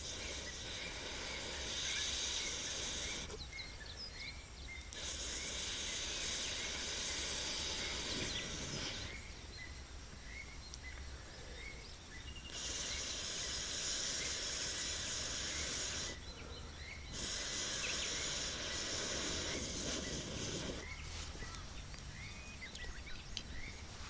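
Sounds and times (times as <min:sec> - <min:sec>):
small chirps: 0:00.0 - 0:24.0
steady outdoor hiss: 0:00.0 - 0:24.0.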